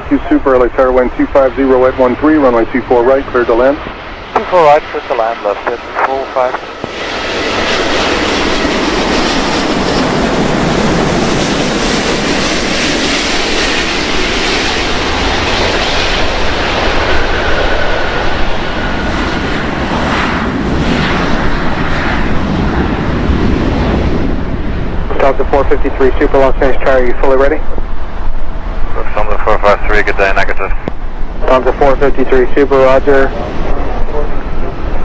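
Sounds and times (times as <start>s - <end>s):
jet airliner engines roaring: 0.0s - 35.0s.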